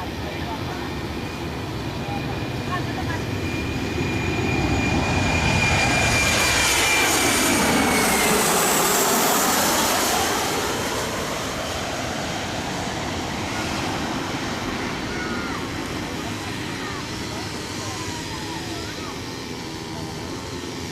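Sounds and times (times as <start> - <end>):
airplane passing low overhead: 0.0 - 20.9.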